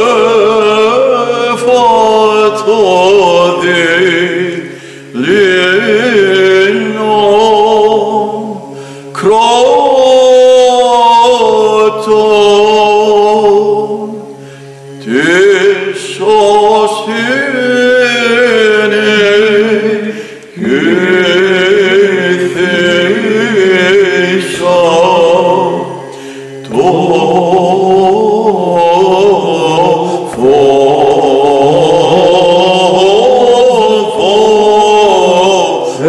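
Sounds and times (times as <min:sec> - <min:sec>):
low vocal drone: 0:00.0 - 0:36.0
man chanting ornamented melody: 0:00.0 - 0:36.0.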